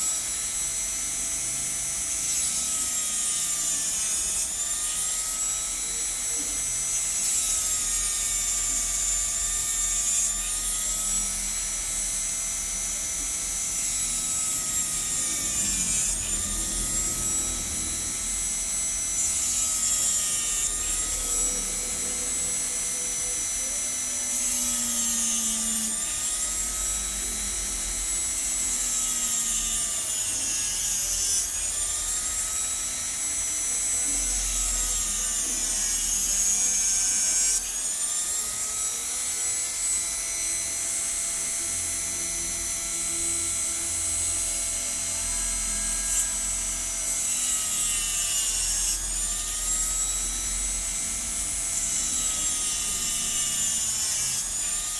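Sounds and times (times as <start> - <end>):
hand grinder motor whining: 0.0 - 54.9.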